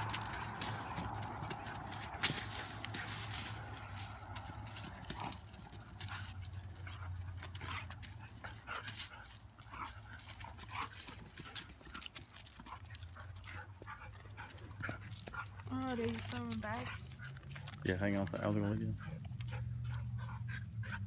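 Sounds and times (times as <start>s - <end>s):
scuffling paws: 0.0s - 21.0s.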